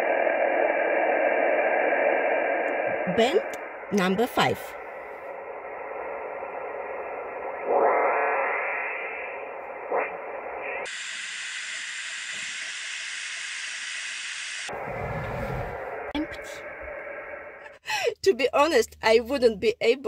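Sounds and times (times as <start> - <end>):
garbled radio signal sweeping: 0.0 - 17.6
radio receiver hiss and static: 0.0 - 17.7.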